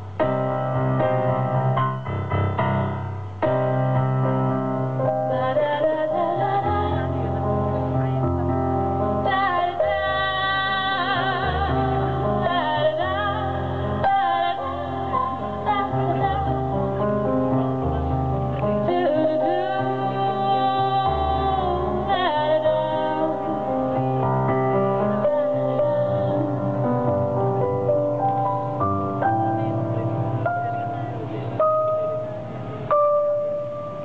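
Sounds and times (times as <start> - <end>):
steady bass line: 0.0 - 34.0
sung melody with vibrato: 0.0 - 34.0.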